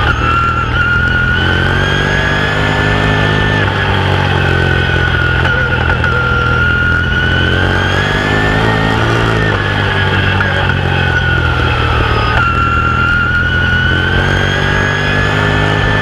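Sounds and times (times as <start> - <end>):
race car engine: 0.0 - 16.0.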